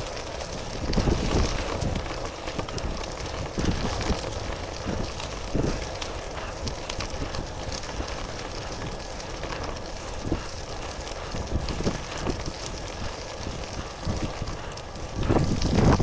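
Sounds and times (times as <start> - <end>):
bike tyre noise: 0.0 - 16.0
crackles and knocks: 0.0 - 16.0
wind buffeting microphone: 0.0 - 16.0.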